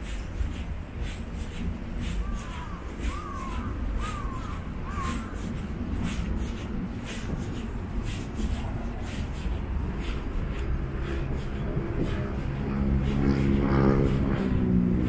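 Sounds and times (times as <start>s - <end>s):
footsteps on pavement: 0.0s - 15.0s
road traffic rumble: 0.0s - 15.0s.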